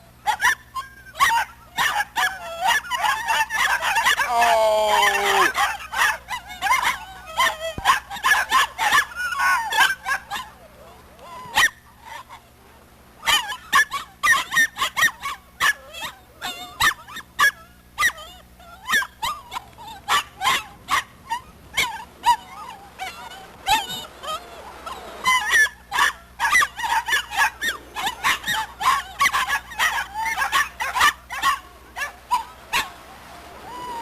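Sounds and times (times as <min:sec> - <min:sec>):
puppies yipping and whining: 0:00.0 - 0:34.0.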